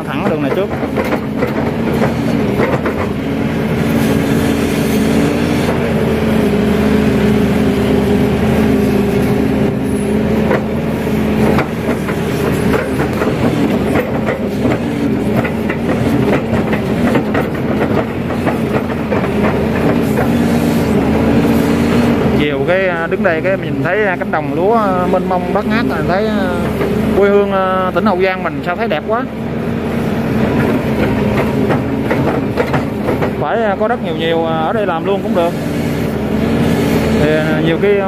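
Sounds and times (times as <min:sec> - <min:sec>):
excavator engine and hydraulics: 0:00.0 - 0:38.0.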